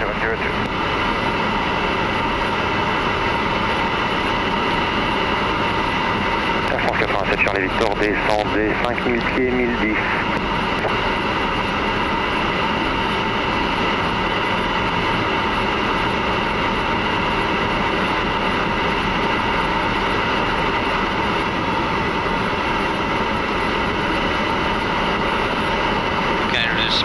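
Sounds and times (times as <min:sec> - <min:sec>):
airflow and air conditioning rush: 0:00.0 - 0:27.0.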